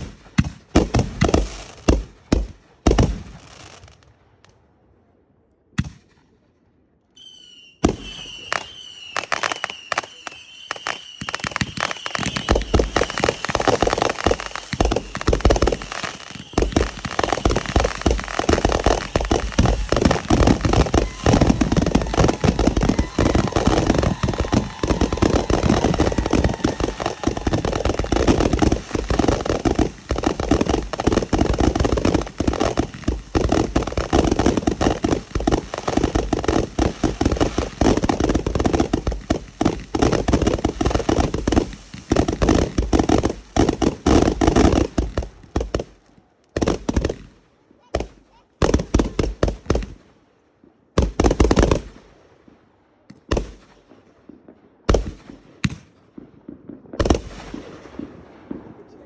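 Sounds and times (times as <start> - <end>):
fireworks bangs and crackles: 0.0 - 4.6, 7.8 - 59.0.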